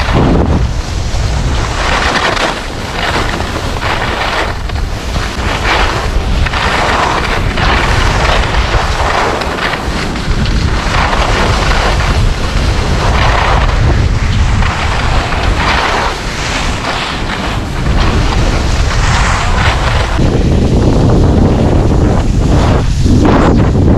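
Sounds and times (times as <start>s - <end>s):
skis scraping on snow: 0.0s - 23.9s
wind buffeting microphone: 0.0s - 23.9s.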